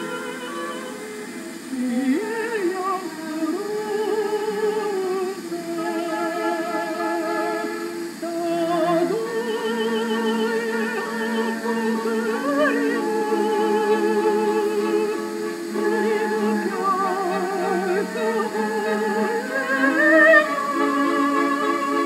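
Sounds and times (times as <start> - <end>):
operatic singing: 0.0 - 22.0
sustained accompaniment: 0.0 - 22.0.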